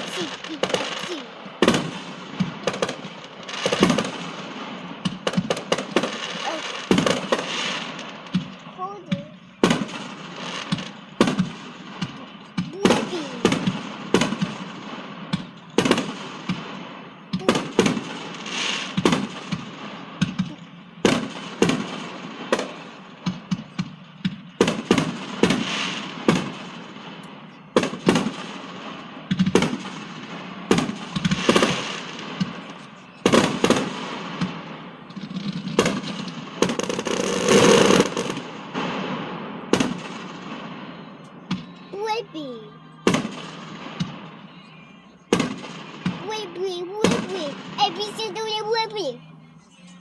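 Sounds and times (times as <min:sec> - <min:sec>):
distant fireworks bangs and crackling: 0:00.0 - 0:49.2.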